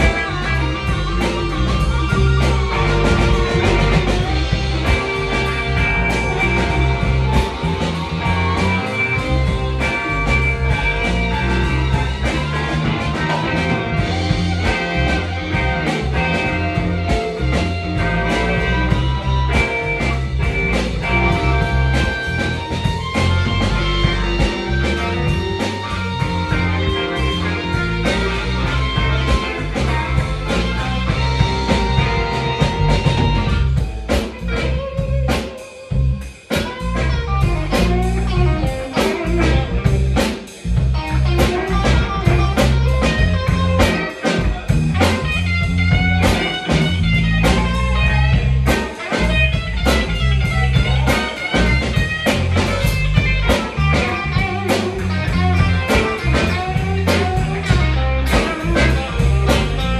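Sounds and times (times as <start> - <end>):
live blues-rock band playing: 0.0 - 59.9.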